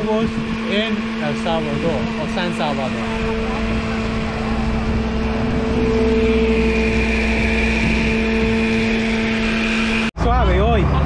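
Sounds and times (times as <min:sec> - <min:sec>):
blender motor running: 0:00.0 - 0:10.1.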